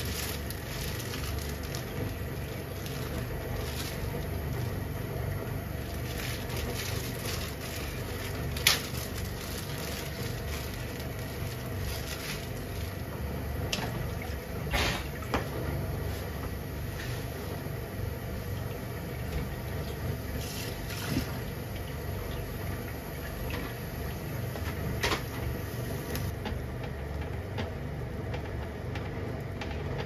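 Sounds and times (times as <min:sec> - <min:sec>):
stovetop low rumble: 0:00.0 - 0:30.0.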